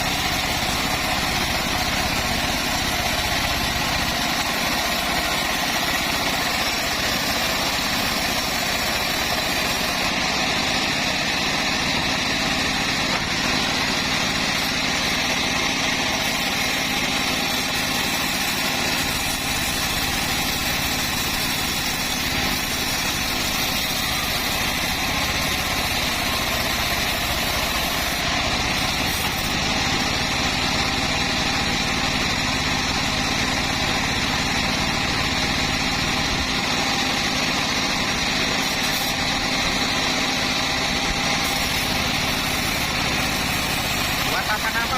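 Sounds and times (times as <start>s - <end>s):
bandsaw mill running: 0.0s - 44.9s.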